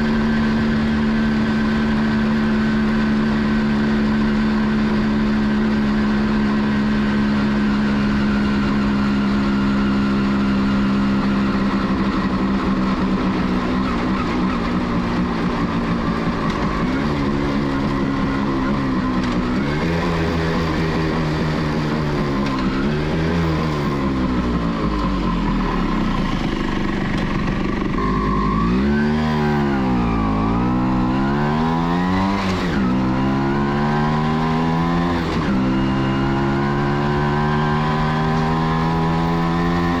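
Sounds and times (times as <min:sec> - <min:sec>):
two-stroke motorcycle engine: 0:00.0 - 0:40.0.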